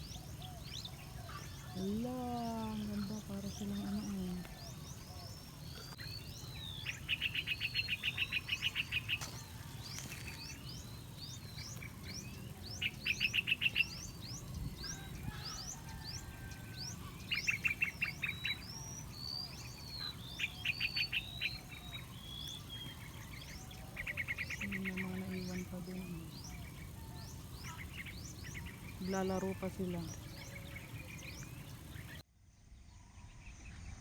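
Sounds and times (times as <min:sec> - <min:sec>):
birds chirping: 0:00.0 - 0:32.2
fast rattling bird trill: 0:00.0 - 0:32.2.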